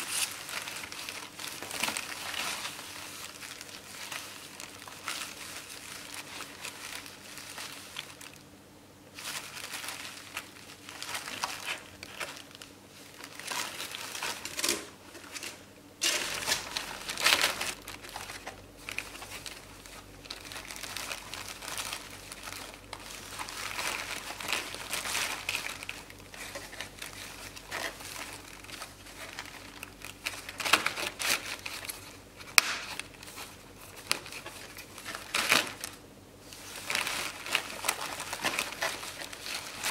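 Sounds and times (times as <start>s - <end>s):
bubble wrap crinkling and rustling: 0.0s - 39.9s.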